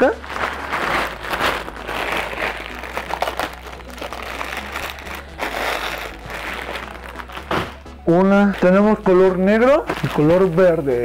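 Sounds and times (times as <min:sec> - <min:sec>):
plastic sleeve rustling and crinkling: 0:00.0 - 0:11.0.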